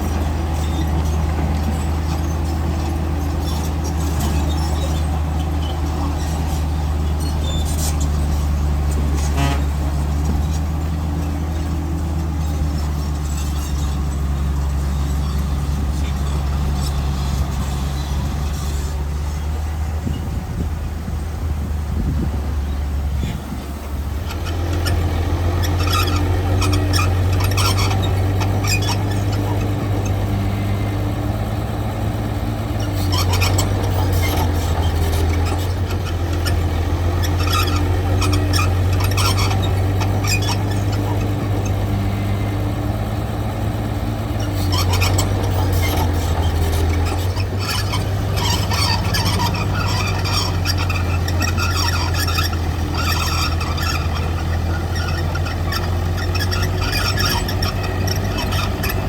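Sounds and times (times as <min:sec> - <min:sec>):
metallic squeaks and scrapes: 0:00.0 - 0:20.3, 0:24.2 - 0:59.0
diesel engine under load: 0:00.0 - 0:59.0.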